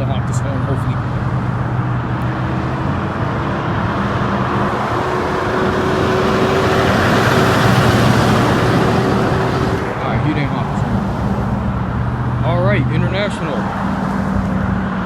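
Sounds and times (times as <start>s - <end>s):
truck tyre roar and engine: 0.0s - 15.0s.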